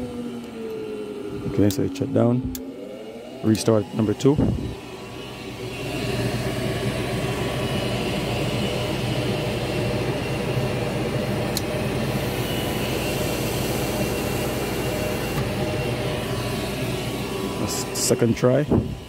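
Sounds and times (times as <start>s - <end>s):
furnace inducer motor humming: 0.0s - 19.0s.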